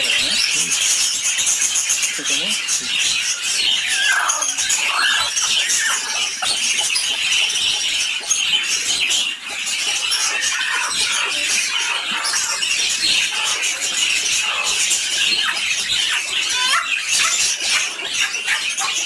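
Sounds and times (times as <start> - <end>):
high-pitched chirping: 0.0 - 19.0
hen clucking and squawking: 2.2 - 19.0.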